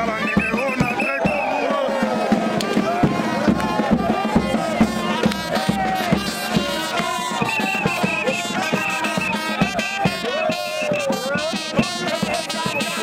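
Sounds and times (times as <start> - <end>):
music with steady beat: 2.0 - 13.0.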